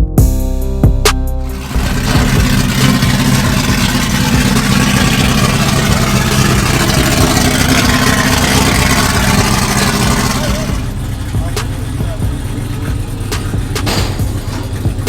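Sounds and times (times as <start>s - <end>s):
loud vehicle engine running: 1.4s - 15.0s.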